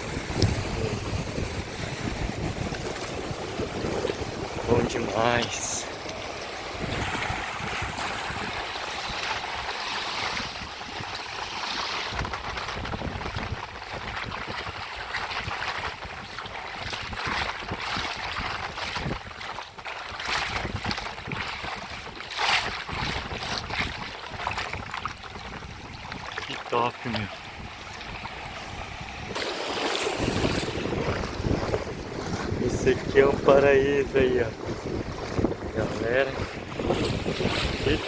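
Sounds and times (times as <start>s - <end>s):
water lapping and splashing: 0.0s - 38.0s
wind buffeting microphone: 0.0s - 38.0s.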